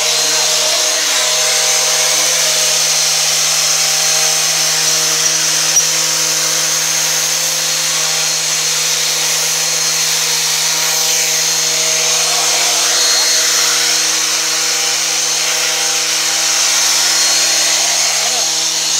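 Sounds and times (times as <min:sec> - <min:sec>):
electric sander scraping wall putty: 0:00.0 - 0:18.9.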